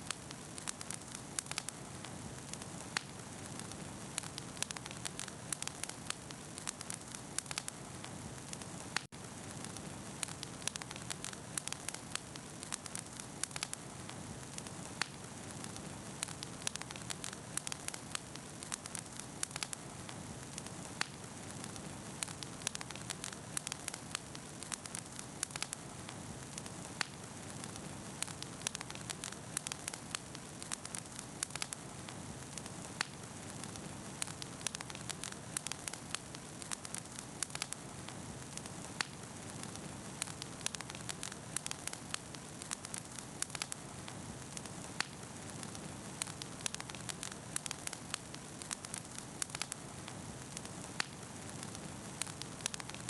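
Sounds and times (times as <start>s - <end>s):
soft rush of flame: 0.0s - 53.0s
wood bonfire crackling: 0.0s - 53.0s.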